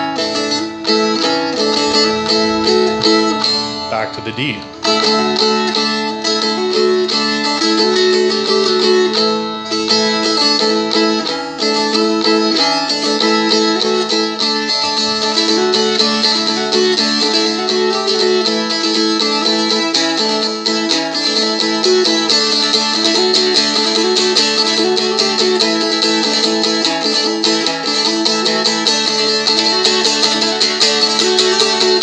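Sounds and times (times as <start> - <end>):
strummed dulcimer-style instrument: 0.0 - 32.0.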